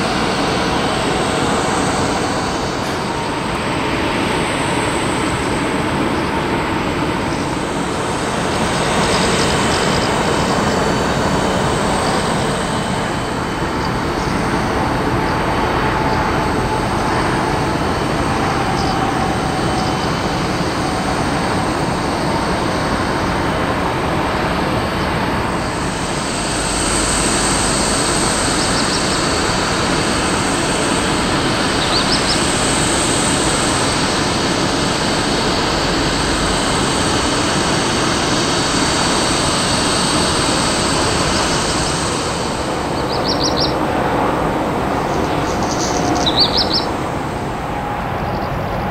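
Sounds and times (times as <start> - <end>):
jet aircraft roar: 0.0 - 48.9.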